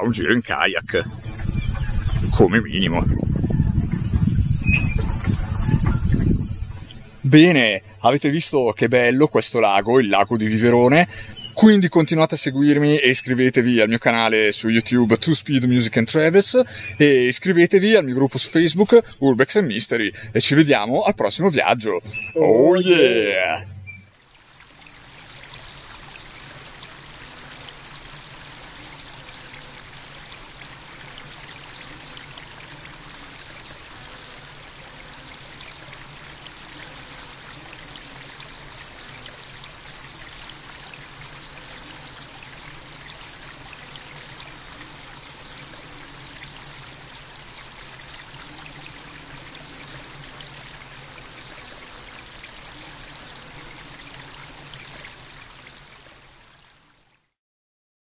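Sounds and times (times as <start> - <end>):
water trickling: 0.0 - 57.4.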